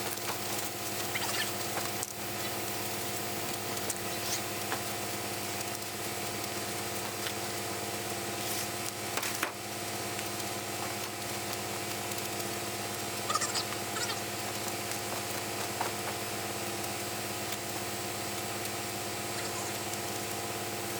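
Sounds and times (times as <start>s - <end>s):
concrete pump engine hum: 0.0s - 20.9s
hissing haze: 0.0s - 20.9s.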